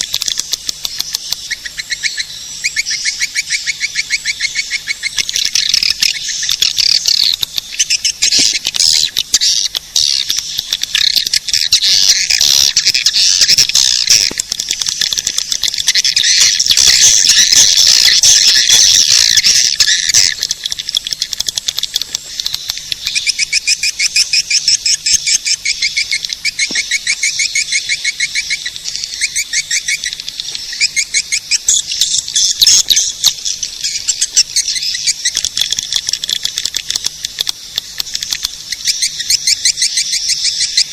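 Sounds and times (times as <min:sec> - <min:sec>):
swiftlet twittering and chirps: 0:00.0 - 0:40.9.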